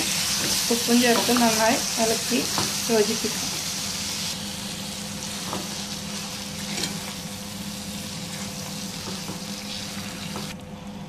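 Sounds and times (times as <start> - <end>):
chicken sizzling in a pot: 0.0 - 10.6.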